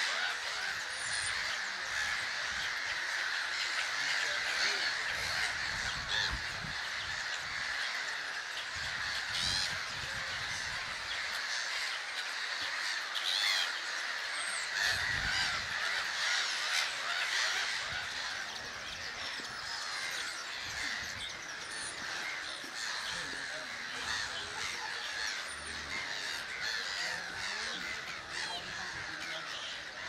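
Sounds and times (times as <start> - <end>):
gull colony calling: 0.0 - 30.0.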